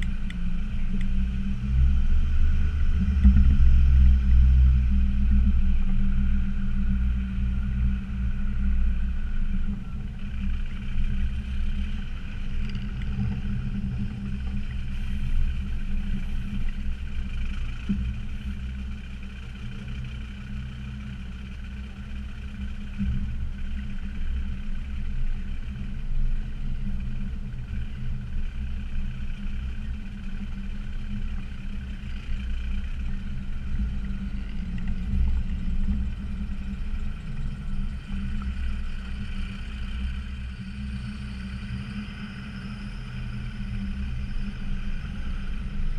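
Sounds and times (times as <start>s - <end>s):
diesel engine driving off-road: 0.0s - 45.9s.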